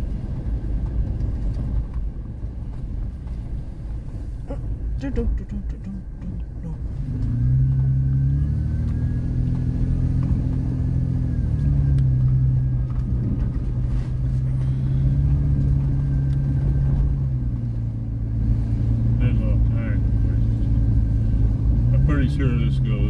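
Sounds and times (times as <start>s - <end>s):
car engine running: 0.0s - 23.0s
tyres rumbling on dirt road: 0.0s - 23.0s.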